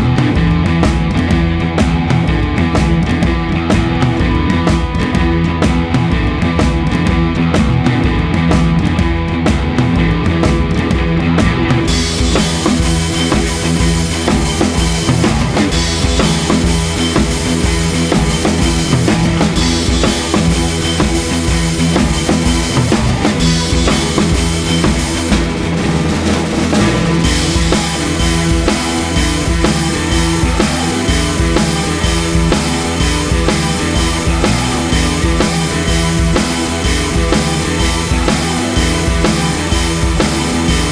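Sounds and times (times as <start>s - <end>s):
rock music with drum beat: 0.0s - 40.9s.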